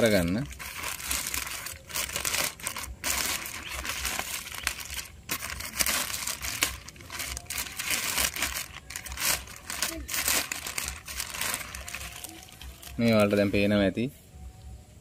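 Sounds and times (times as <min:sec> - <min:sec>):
plastic wrap crinkling: 0:00.0 - 0:13.7.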